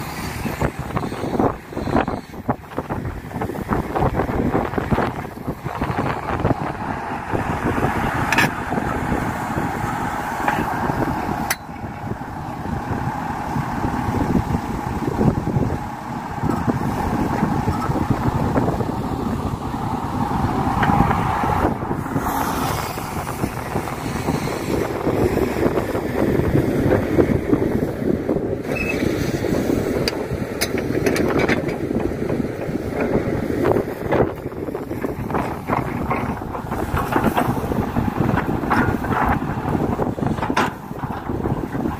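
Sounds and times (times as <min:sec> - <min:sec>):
excavator diesel engine running: 0:00.0 - 0:41.9
wind buffeting microphone: 0:00.0 - 0:41.9.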